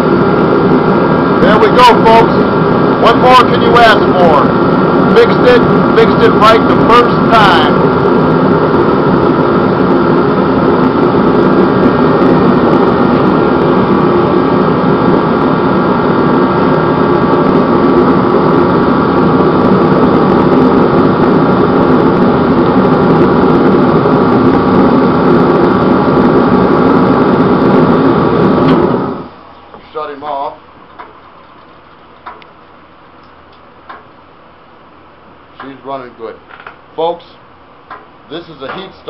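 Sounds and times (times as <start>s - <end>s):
burner flame rushing: 0.0s - 39.0s
heater fan and compressor hum: 0.0s - 39.0s.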